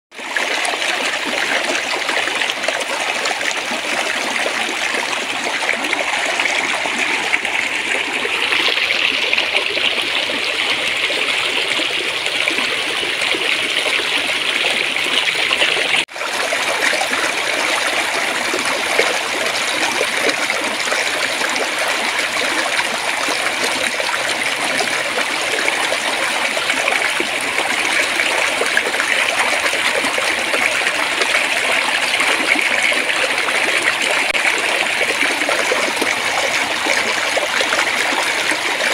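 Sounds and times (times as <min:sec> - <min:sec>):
stream water babbling: 0:00.1 - 0:38.9.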